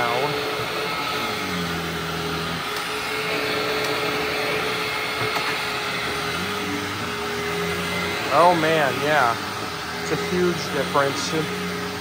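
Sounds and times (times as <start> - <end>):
upright vacuum whirring: 0.0 - 12.0.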